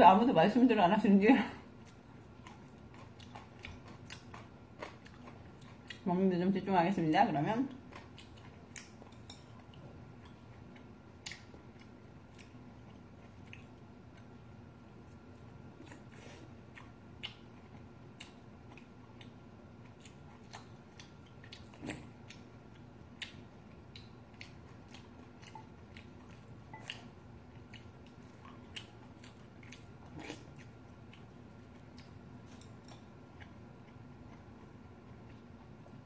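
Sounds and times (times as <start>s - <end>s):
person chewing: 1.8s - 6.0s, 7.8s - 36.0s.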